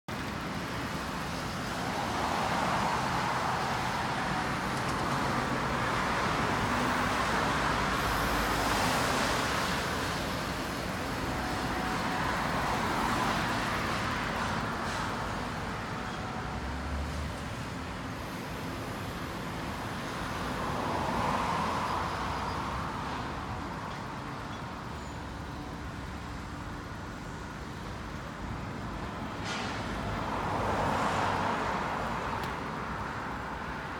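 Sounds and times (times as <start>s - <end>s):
road traffic passing: 0.1s - 33.9s.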